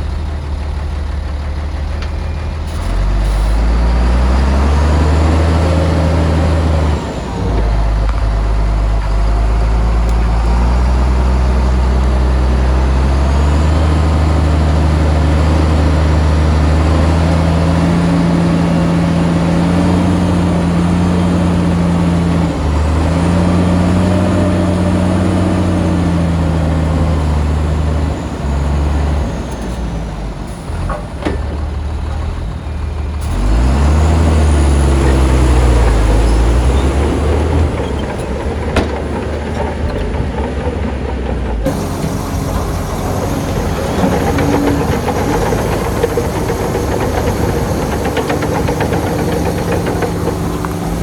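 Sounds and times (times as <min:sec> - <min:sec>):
heavy diesel engine revving: 0:00.0 - 0:51.0.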